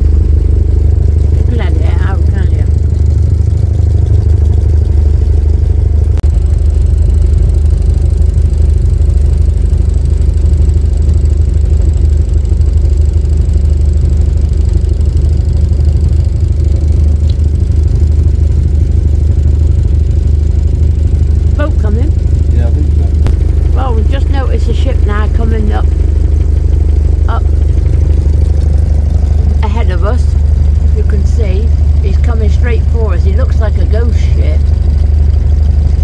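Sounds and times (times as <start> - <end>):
boat engine humming: 0.0 - 36.0.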